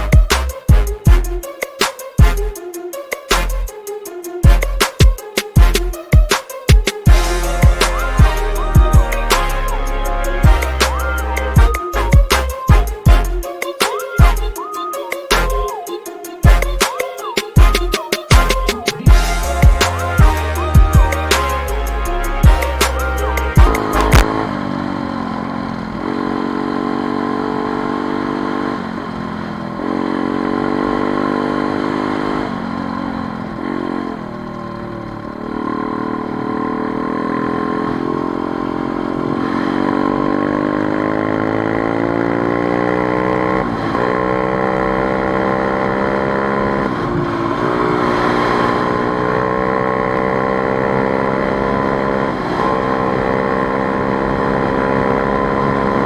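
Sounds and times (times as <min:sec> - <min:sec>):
motorcycle engine accelerating: 0:04.4 - 0:13.4, 0:17.6 - 0:56.0.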